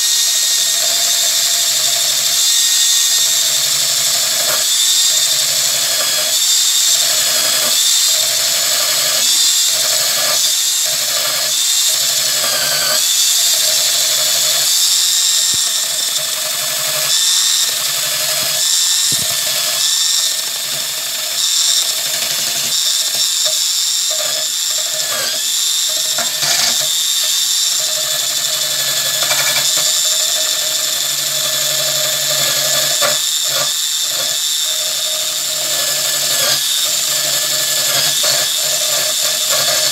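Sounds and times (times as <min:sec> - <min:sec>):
wire wheel grinding metal: 0:00.6 - 0:39.9.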